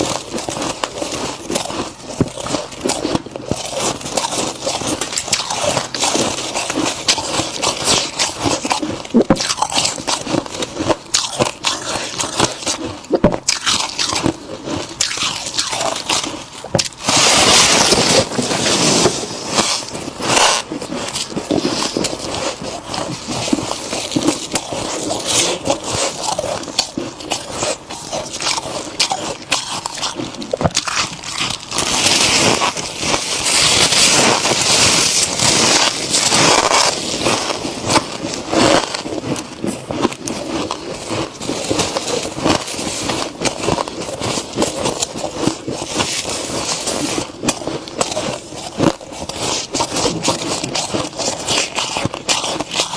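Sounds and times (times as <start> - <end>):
frost being chewed crunching: 0.0 - 52.9.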